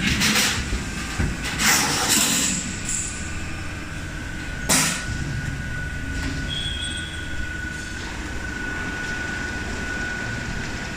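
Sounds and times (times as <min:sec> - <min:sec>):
high machine whine: 0:00.0 - 0:10.9
machine drone: 0:00.0 - 0:10.9.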